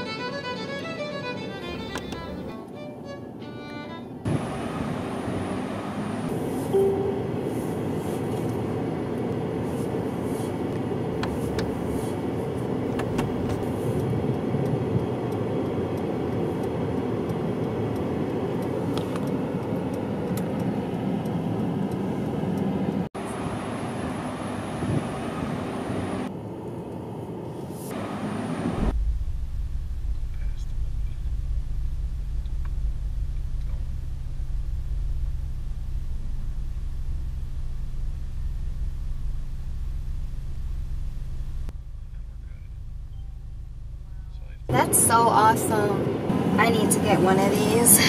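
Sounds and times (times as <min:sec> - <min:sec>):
car low rumble: 0:00.0 - 0:48.0.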